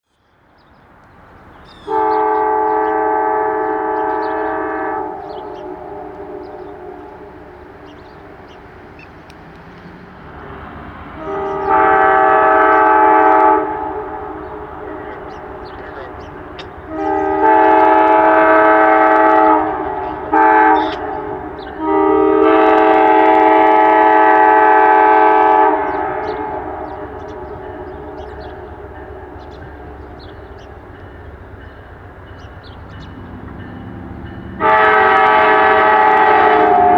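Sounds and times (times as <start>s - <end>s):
train rumble: 0.2s - 36.9s
locomotive air horn blasts: 1.8s - 7.8s, 10.5s - 30.8s, 33.6s - 36.9s.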